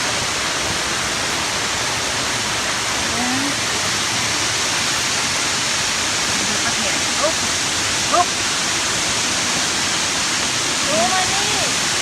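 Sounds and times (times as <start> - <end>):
waterfall pouring onto rocks: 0.0 - 12.0.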